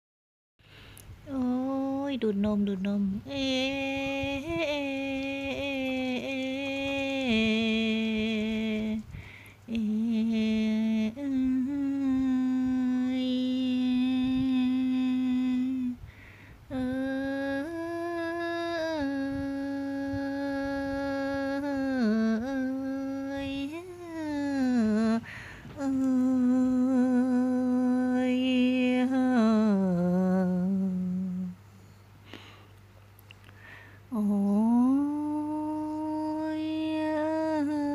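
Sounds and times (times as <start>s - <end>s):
person humming a lullaby: 1.2s - 31.7s, 33.6s - 37.9s.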